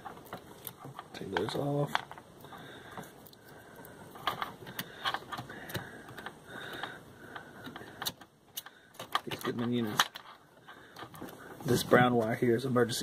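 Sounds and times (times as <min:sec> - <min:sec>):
wires clicking and rustling: 0:00.0 - 0:12.4.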